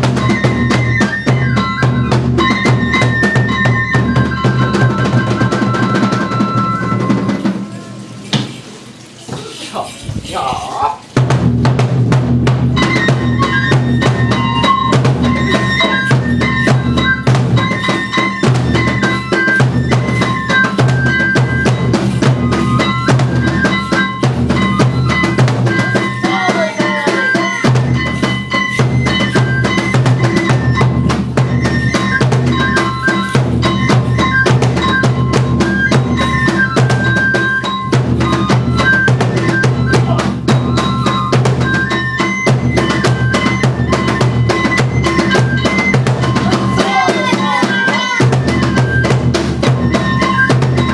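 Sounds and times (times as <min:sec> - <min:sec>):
bamboo flute melody: 0:00.0 - 0:08.0, 0:11.1 - 0:50.9
taiko drum beating: 0:00.0 - 0:08.7, 0:10.3 - 0:50.9.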